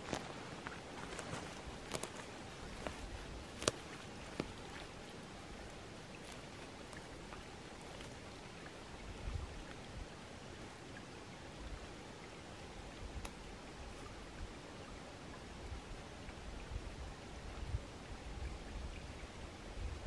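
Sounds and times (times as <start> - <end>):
stream trickling over stones: 0.0 - 20.0.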